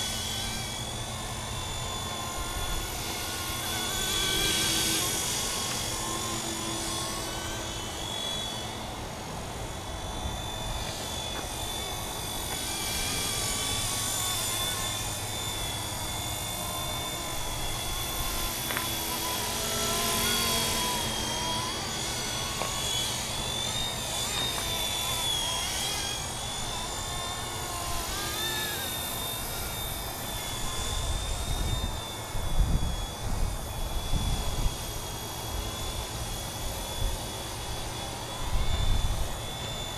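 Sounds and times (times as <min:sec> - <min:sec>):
model helicopter rotor whine: 0:00.0 - 0:39.9.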